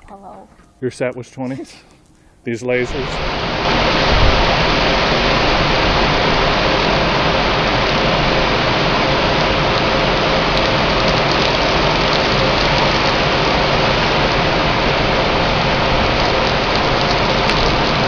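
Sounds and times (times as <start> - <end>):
faint steady hum: 0.0 - 18.0
rain falling: 2.8 - 18.0.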